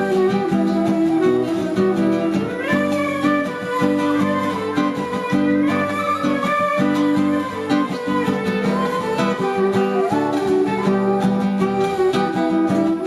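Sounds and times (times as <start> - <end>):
plucked string music: 0.0 - 13.0.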